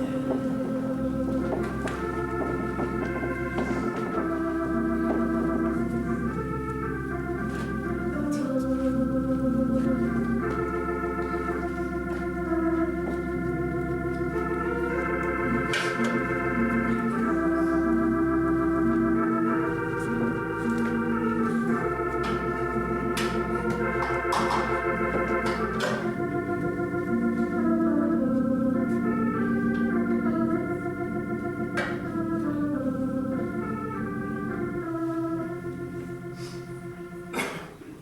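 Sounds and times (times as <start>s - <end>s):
organ playing sustained chords: 0.0s - 38.0s.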